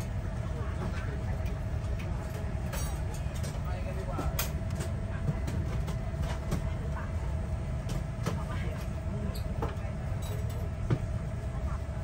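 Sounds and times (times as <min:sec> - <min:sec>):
low rumble in airliner cabin: 0:00.0 - 0:12.0.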